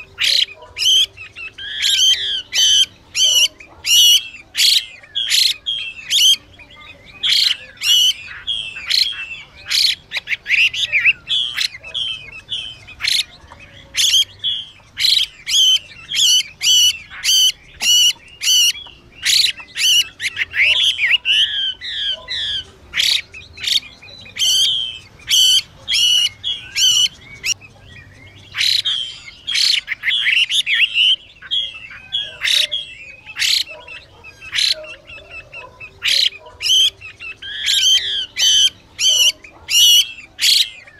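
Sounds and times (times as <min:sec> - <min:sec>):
bird song whistled warbles: 0:00.0 - 0:40.9.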